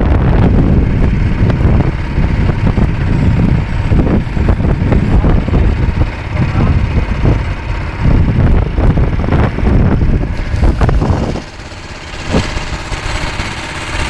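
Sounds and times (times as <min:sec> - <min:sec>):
boat engine running: 0:00.0 - 0:14.0
irregular low rumble: 0:00.0 - 0:14.0.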